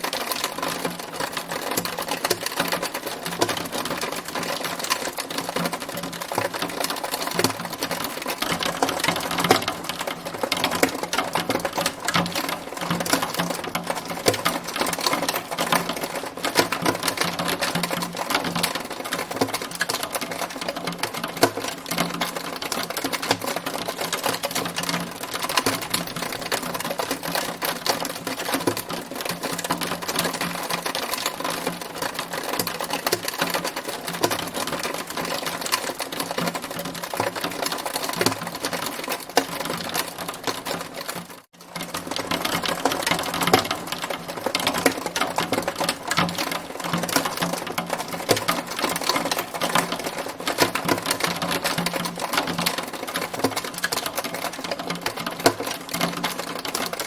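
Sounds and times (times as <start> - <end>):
hail clattering: 0.0 - 57.0.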